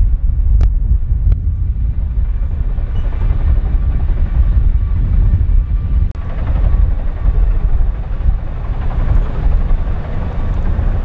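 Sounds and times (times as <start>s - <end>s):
helicopter rumble: 0.0s - 11.0s
wind buffeting microphone: 0.0s - 11.0s.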